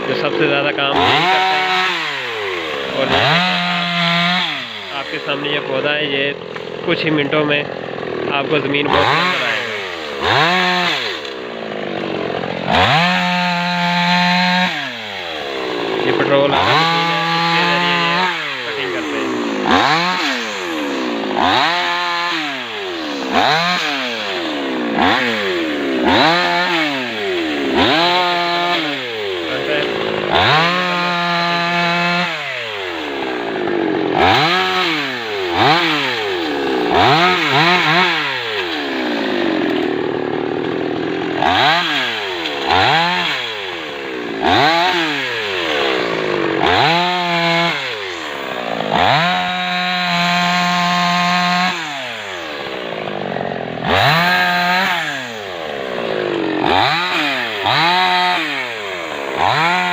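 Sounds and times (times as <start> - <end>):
chainsaw revving and cutting wood: 0.0 - 59.9.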